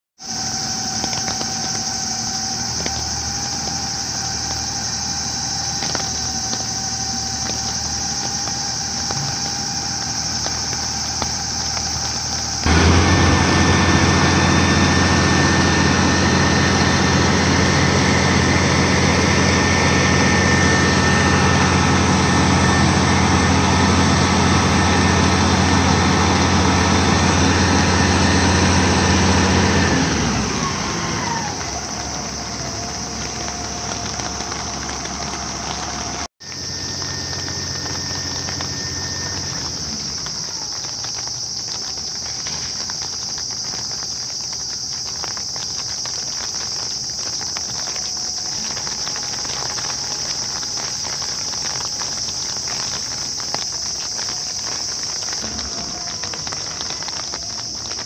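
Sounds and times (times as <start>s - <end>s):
diesel engine revving: 0.2s - 44.3s, 45.0s - 58.0s
engine whine falling in pitch: 0.2s - 44.3s, 45.0s - 58.0s.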